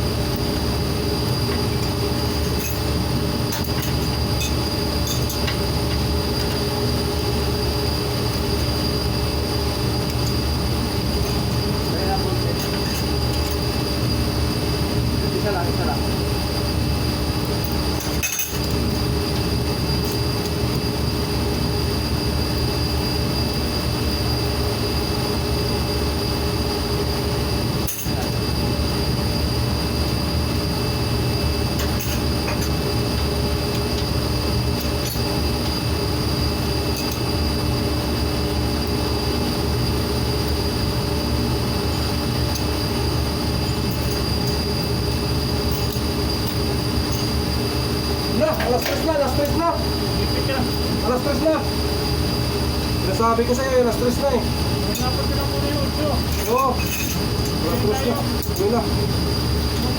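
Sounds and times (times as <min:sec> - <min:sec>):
high-pitched machine whine: 0:00.0 - 0:59.9
industrial machinery hum: 0:00.0 - 0:59.9.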